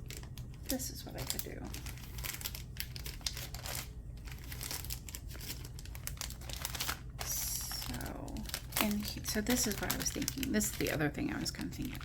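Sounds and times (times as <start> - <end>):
low steady hum: 0.0 - 12.0
packaging crinkling: 0.0 - 12.0.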